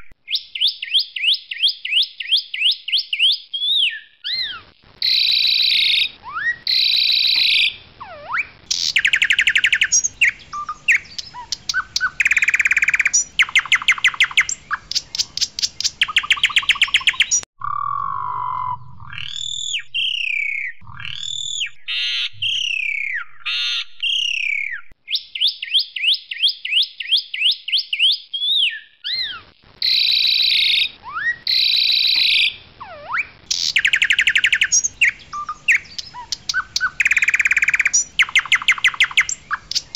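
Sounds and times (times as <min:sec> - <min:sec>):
bird whistles and ticking rattle: 0:00.0 - 0:17.9, 0:19.1 - 0:39.9.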